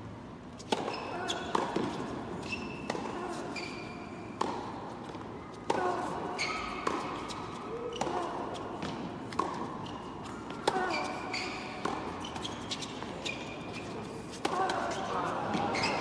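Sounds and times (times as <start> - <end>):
tennis shoes squeaking on court: 0.5 - 16.0
racket hitting tennis ball: 0.6 - 13.6, 14.3 - 16.0.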